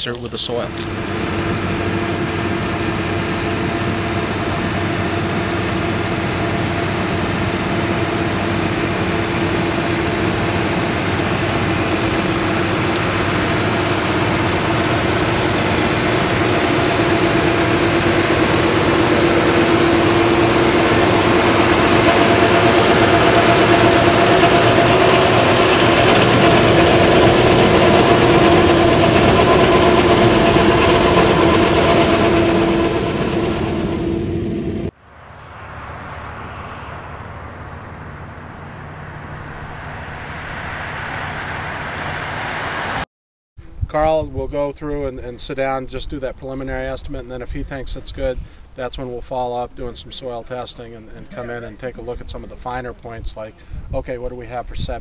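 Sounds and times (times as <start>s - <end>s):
machinery engine droning: 0.0s - 43.0s, 43.6s - 55.0s.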